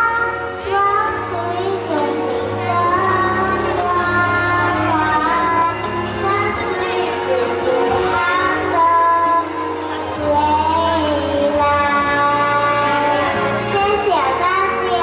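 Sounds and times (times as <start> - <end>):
backing music: 0.0 - 15.0
woman singing: 0.0 - 15.0.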